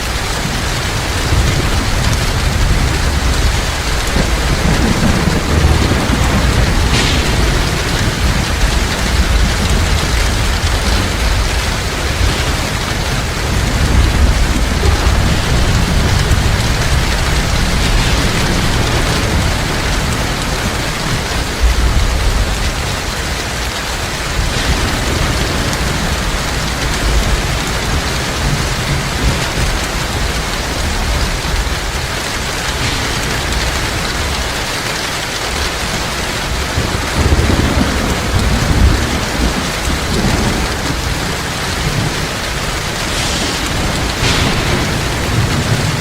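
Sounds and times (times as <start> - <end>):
heavy rain falling: 0.0 - 46.0
thunder rumbling: 0.0 - 46.0.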